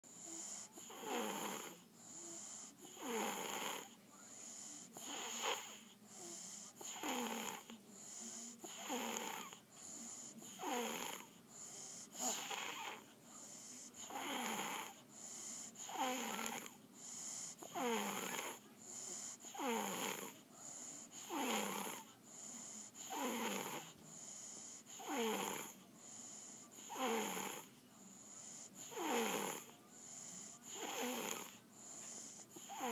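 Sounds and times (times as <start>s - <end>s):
boy snoring: 0.2s - 27.7s, 28.4s - 32.9s.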